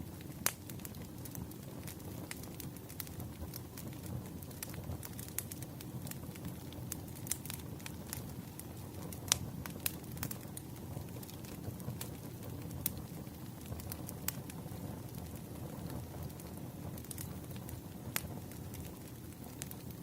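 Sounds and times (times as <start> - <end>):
campfire crackling and popping: 0.0 - 20.0
fire low rumble: 0.0 - 20.0.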